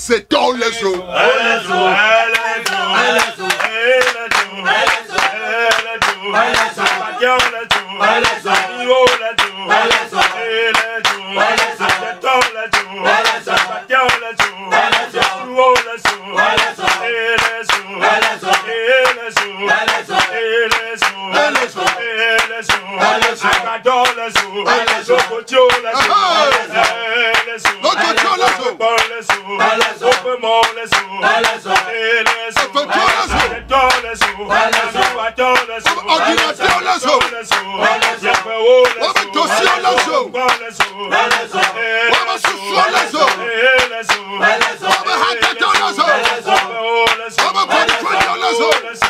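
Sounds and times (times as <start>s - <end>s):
voices praying aloud: 0.1s - 49.0s.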